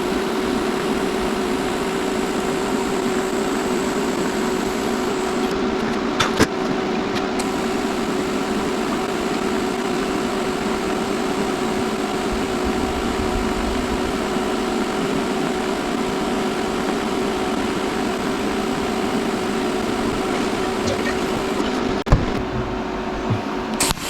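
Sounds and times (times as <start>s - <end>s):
welder buzzing hum: 0.0s - 24.0s.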